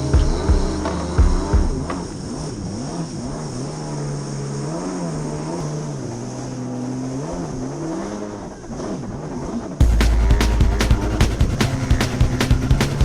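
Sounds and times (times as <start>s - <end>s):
jet ski engine revving: 0.0s - 13.0s.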